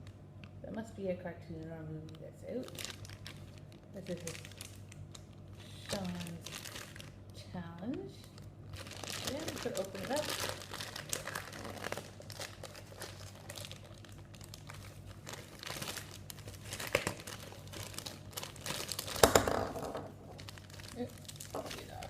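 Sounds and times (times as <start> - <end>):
plastic packaging crinkling and tearing: 2.2 - 19.4, 20.2 - 22.0.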